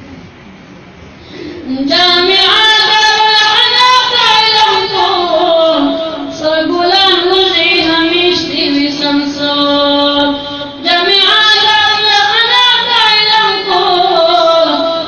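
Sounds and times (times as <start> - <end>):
high voice singing unaccompanied: 1.7 - 15.0.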